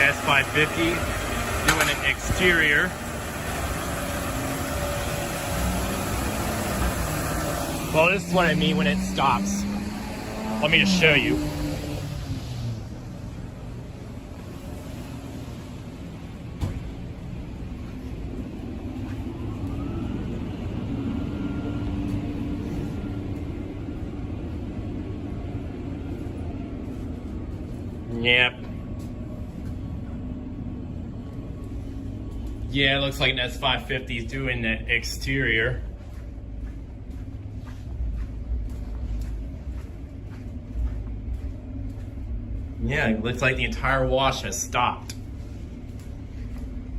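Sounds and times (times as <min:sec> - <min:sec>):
car engines idling: 0:00.0 - 0:46.9.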